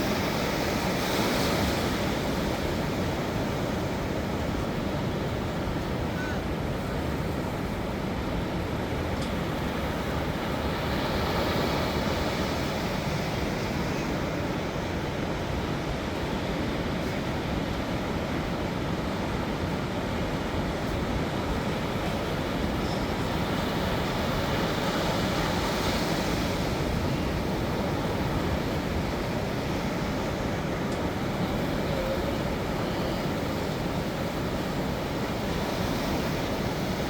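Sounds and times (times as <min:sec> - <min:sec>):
ocean waves breaking: 0:00.0 - 0:37.0.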